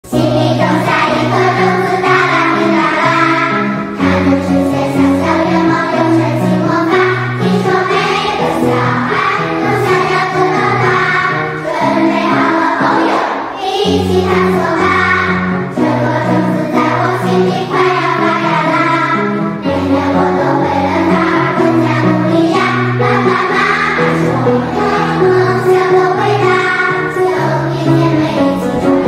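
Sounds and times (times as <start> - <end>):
children's choir singing: 0.0 - 29.0.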